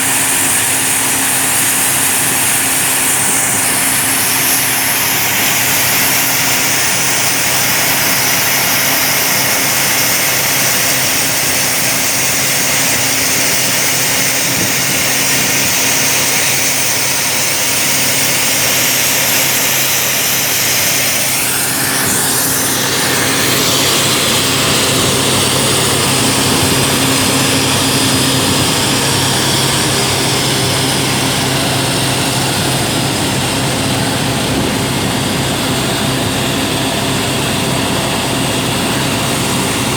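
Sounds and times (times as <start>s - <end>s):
strong hiss: 0.0s - 36.5s
drill rig engine running: 0.0s - 39.9s.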